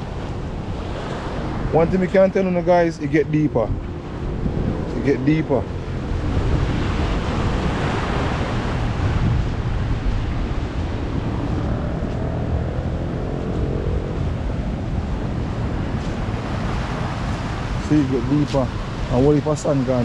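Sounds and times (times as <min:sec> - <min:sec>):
sea surf washing onto shore: 0:00.0 - 0:20.0
wind rumbling on microphone: 0:00.0 - 0:20.0.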